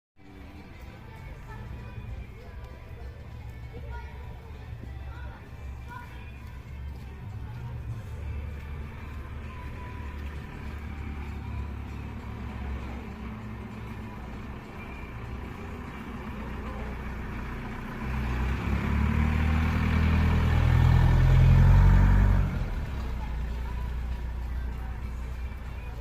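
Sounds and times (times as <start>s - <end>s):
vehicle engine rumbling: 0.2s - 26.0s.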